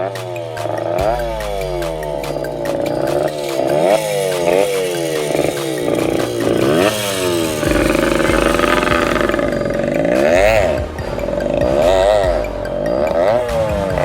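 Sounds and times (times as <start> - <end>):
small engine revving: 0.0 - 14.0.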